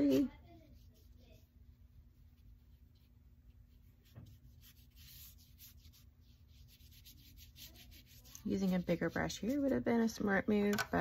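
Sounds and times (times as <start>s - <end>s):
paintbrush brushing on paper: 0.0s - 10.7s.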